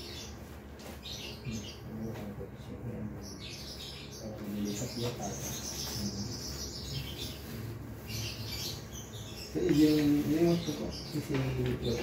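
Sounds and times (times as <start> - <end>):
high steady bird trill: 0.0 - 2.2, 2.9 - 12.0
small birds chirping: 0.0 - 12.0.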